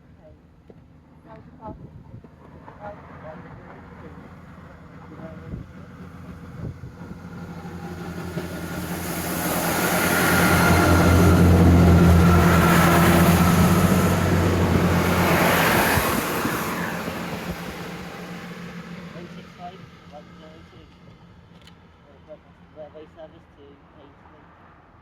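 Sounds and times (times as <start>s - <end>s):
large vehicle engine humming: 0.0s - 24.6s.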